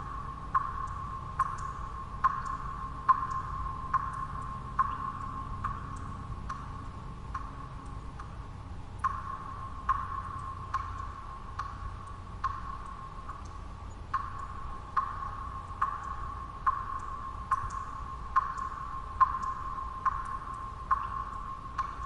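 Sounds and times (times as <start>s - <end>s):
low white-noise hum: 0.0s - 22.0s.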